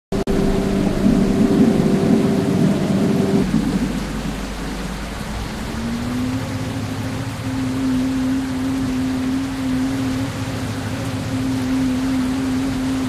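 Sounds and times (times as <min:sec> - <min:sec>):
truck diesel engine drone: 0:00.1 - 0:13.0.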